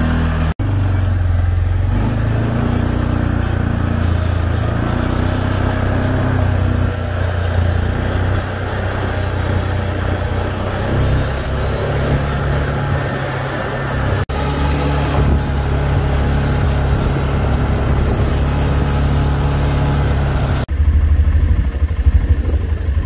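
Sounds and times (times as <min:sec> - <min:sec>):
all-terrain vehicle engine running: 0:00.0 - 0:23.0.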